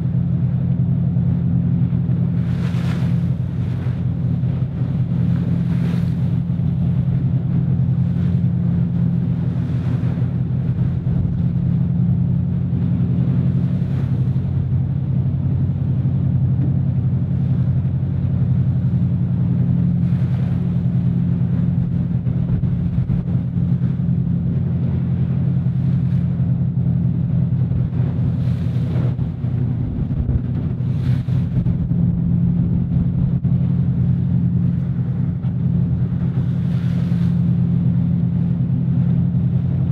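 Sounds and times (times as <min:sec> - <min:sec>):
boat engine droning: 0:00.0 - 0:39.9
water splashing against hull: 0:00.0 - 0:39.9.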